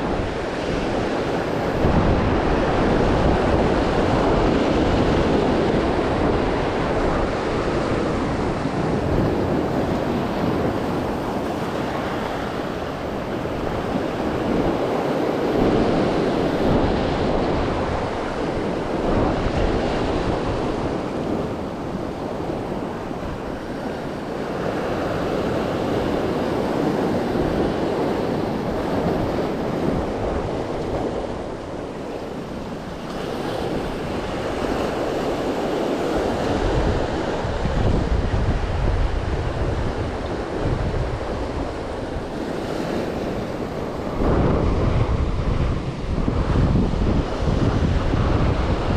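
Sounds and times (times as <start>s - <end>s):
surf breaking over rocks: 0.0s - 48.9s
wind buffeting microphone: 0.0s - 48.9s.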